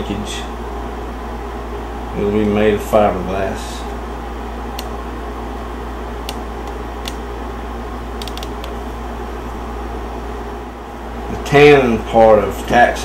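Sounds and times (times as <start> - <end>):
low room hum with hiss: 0.0 - 13.0.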